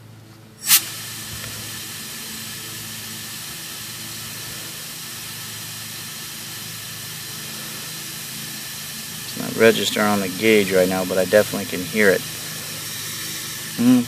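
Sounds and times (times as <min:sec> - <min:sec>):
steady air hiss: 0:00.0 - 0:14.0
compressed air burst: 0:00.6 - 0:14.0.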